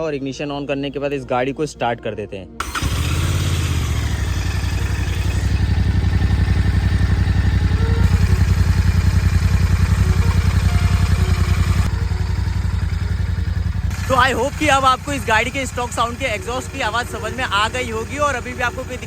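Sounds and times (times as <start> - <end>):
motorcycle engine idling: 2.6 - 19.0.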